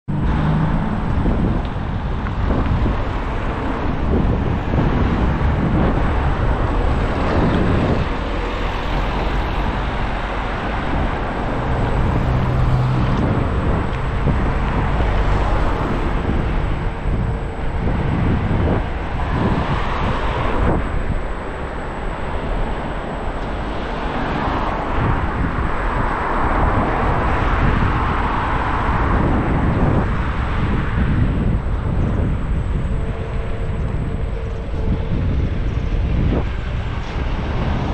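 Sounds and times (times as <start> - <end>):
wheels rolling on asphalt: 0.1 - 37.9
wind on microphone: 0.1 - 37.9.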